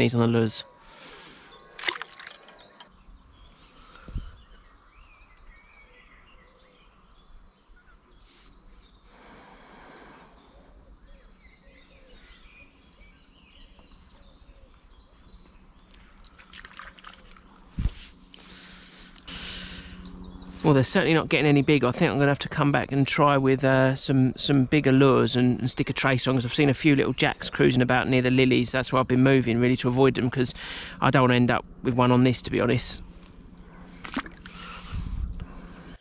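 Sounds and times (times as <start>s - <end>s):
birds singing and chirping: 0.0s - 36.0s.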